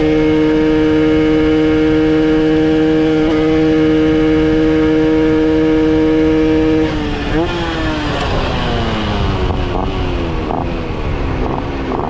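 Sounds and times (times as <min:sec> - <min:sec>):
moped engine at high revs: 0:00.0 - 0:12.0.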